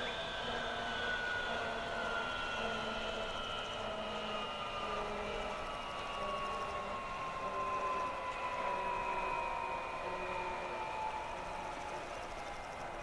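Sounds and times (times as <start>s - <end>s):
helicopter engine whining: 0.0s - 13.0s.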